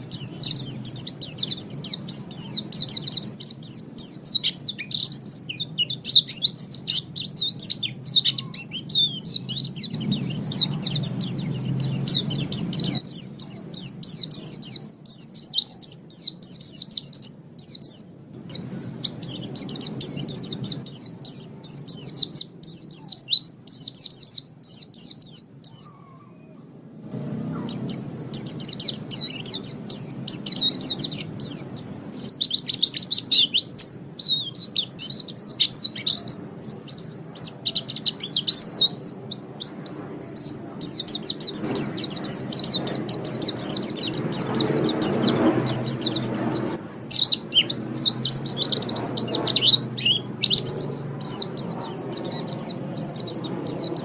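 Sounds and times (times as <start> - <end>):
bird twittering song: 0.0 - 54.0
low background noise: 0.0 - 54.0.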